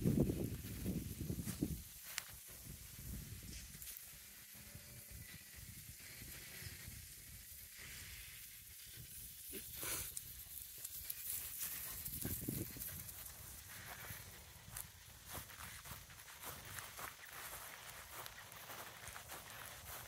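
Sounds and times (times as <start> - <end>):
dogs rustling through grass: 0.0 - 4.5, 7.4 - 20.0.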